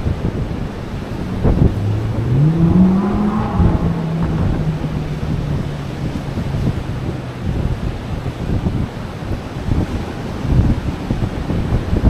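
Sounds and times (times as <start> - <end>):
vehicle engine: 0.0 - 10.6
wind buffeting microphone: 0.0 - 12.0.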